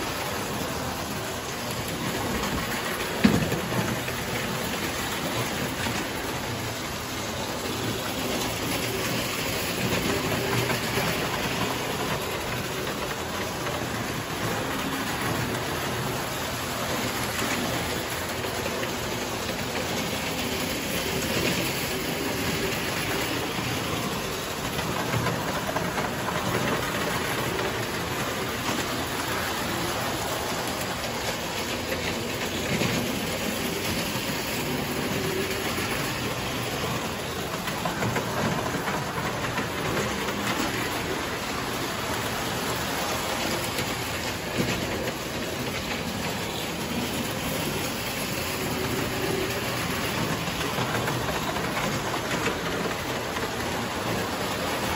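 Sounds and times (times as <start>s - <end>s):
toy train running on metal track: 0.0s - 54.9s.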